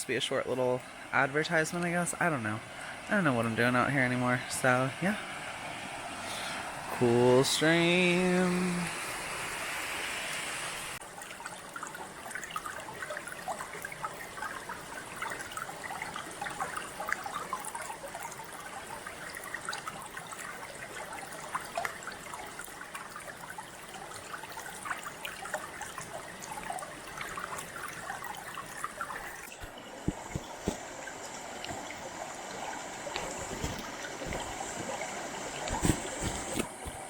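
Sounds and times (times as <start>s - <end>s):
water splashing over rocks: 0.1s - 9.6s, 10.2s - 37.0s.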